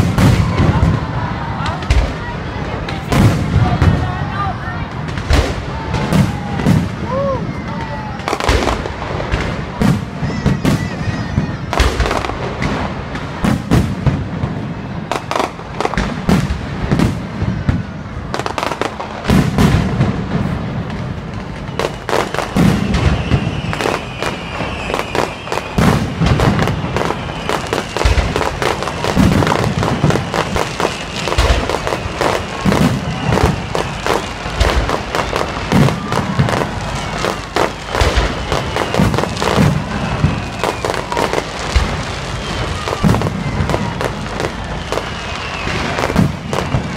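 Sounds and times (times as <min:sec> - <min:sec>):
deep firework booms: 0:00.0 - 0:46.9
fireworks bangs and crackling: 0:00.0 - 0:46.9.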